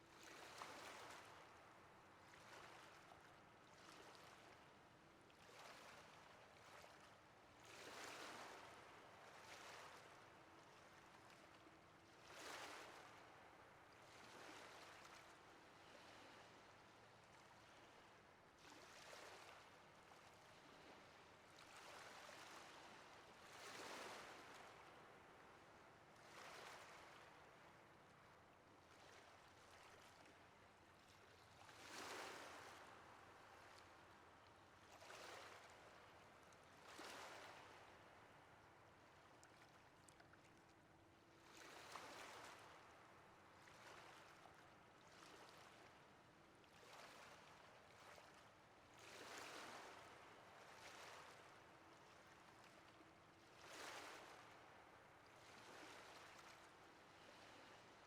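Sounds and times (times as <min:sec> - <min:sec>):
faint ocean waves breaking: 0:00.0 - 0:58.0.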